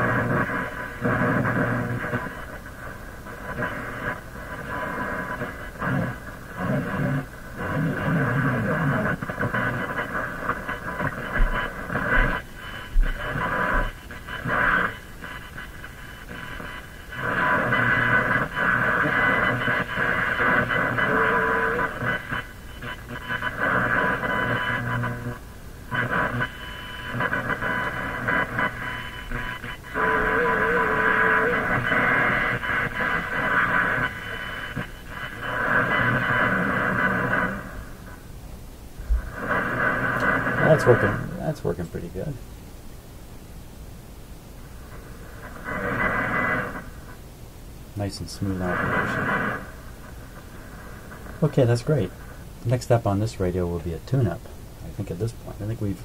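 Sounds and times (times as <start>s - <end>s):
radio broadcast through speaker: 0.0s - 38.2s, 39.0s - 42.4s, 44.8s - 47.2s, 47.9s - 56.0s
faint hiss: 0.0s - 56.0s.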